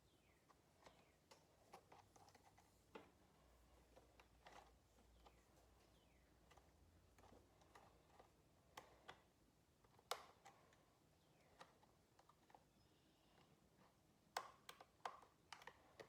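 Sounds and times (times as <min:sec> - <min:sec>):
small parts clicking and tapping: 0:00.3 - 0:16.0.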